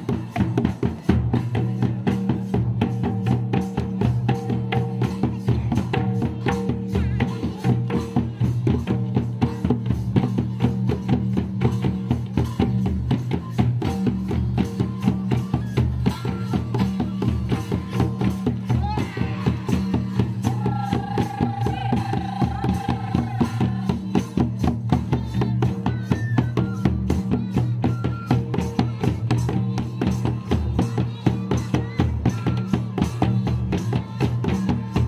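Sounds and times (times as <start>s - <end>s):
hand drums beaten: 0.0s - 35.0s.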